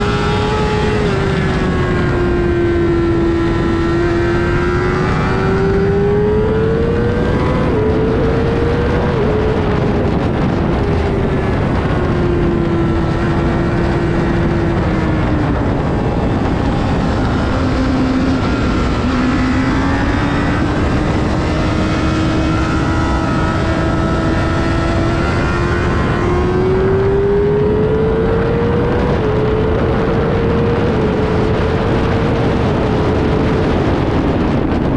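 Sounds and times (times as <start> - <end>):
motorcycle engine revving: 0.0 - 34.9
wind rushing: 0.0 - 34.9.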